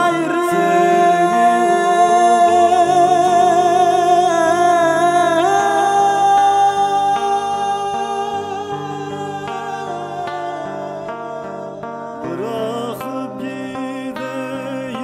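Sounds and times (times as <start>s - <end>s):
acoustic guitar: 0.0s - 15.0s
person singing with vibrato: 0.0s - 15.0s.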